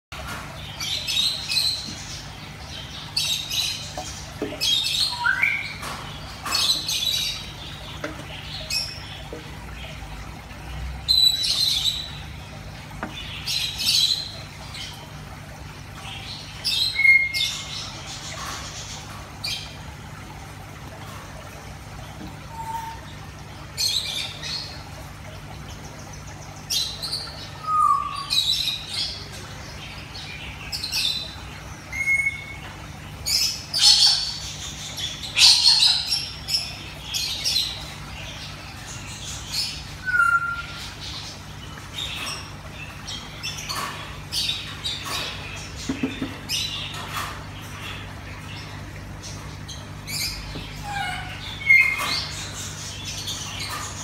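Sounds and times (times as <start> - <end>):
birds squawking and chirping: 0.2 - 54.0.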